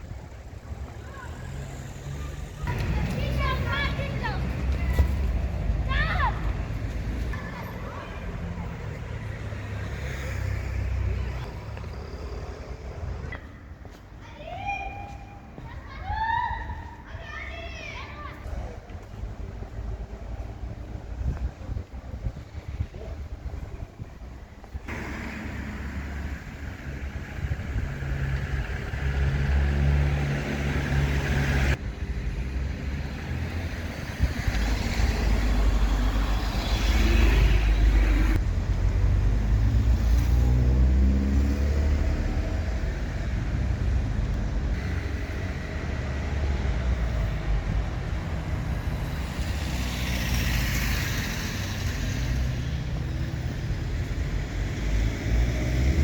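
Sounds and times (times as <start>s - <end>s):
car engines rumbling: 0.0s - 14.2s, 18.5s - 56.0s
cars passing: 0.0s - 56.0s.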